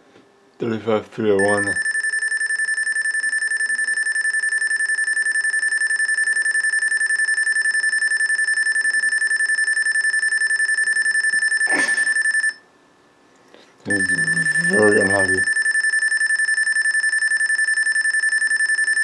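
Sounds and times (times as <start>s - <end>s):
long high-pitched beep: 1.4s - 12.6s, 13.9s - 19.0s.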